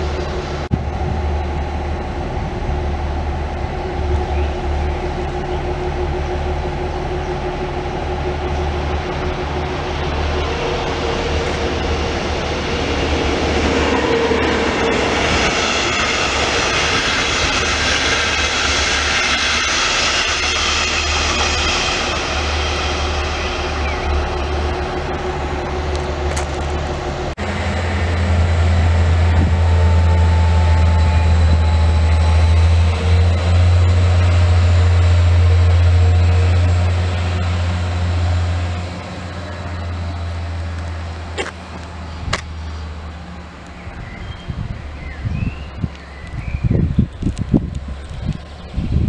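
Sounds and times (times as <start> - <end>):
diesel railcar engine drone: 0.0 - 49.0
train wheel and rail noise: 0.0 - 49.0.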